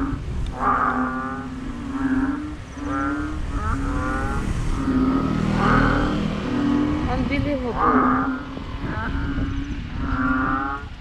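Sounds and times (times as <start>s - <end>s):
frogs calling: 0.0s - 11.0s.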